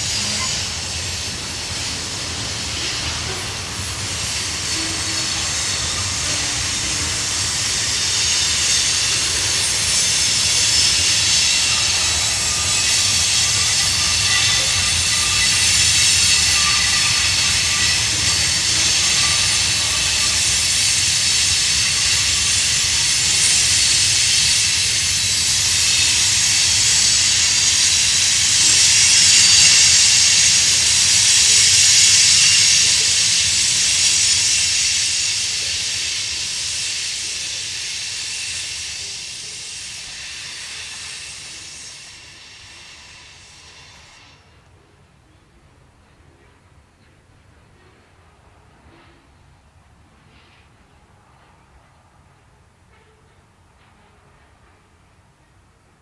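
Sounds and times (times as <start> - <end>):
train wheels hissing on rails: 0.0 - 56.0.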